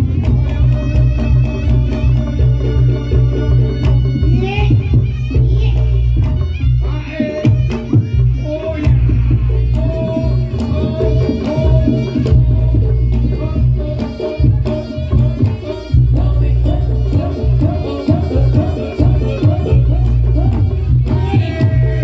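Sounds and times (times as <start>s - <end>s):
hand drums beating: 0.0s - 22.0s.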